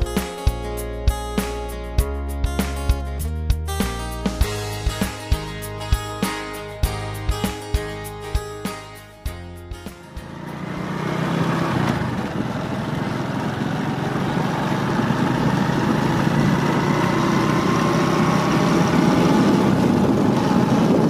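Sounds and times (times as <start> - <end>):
road noise: 0.0 - 21.0
vehicle engine running: 0.0 - 21.0.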